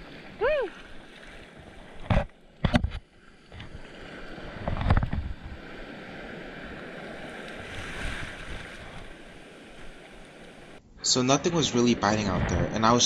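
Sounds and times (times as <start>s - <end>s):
ocean surf splashing: 0.0s - 13.0s.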